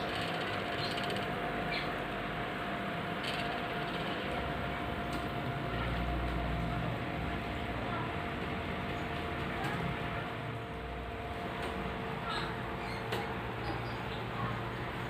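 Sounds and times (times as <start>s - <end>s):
small pump humming: 0.0s - 15.0s.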